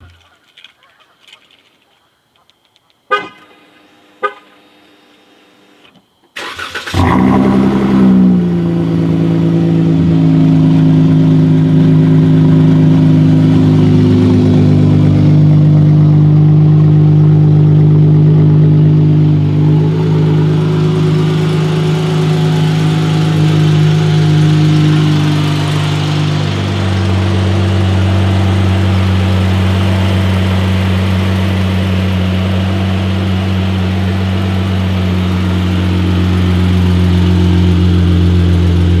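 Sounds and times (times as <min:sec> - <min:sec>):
car engine starting and idling: 0:06.3 - 0:39.0.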